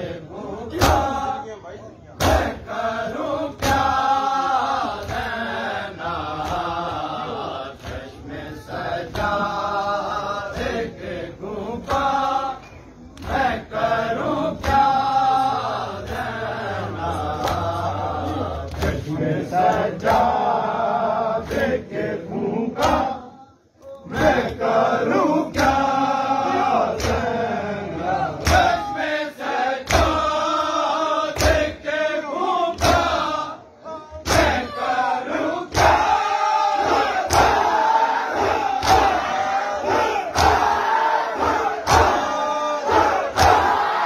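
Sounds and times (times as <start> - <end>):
rhythmic chest-beating slaps: 0.0 - 1.5, 2.1 - 44.0
men chanting a lament: 0.0 - 44.0.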